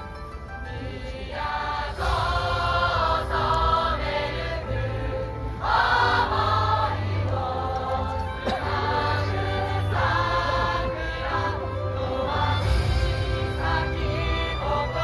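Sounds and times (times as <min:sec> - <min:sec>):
voices singing over loudspeaker music: 0:00.6 - 0:15.0.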